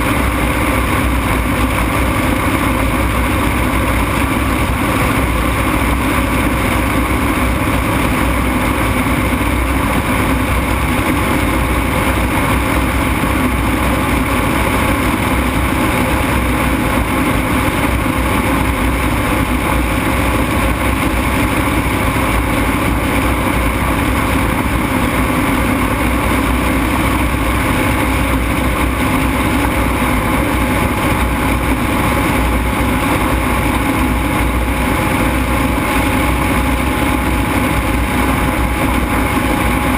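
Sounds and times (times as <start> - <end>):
ultralight aircraft engine: 0.0 - 39.9.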